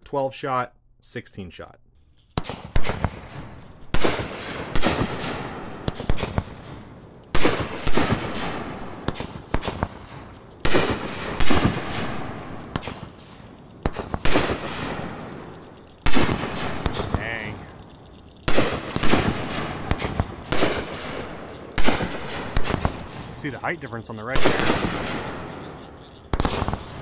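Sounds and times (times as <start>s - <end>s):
firework bangs: 2.3s - 27.0s.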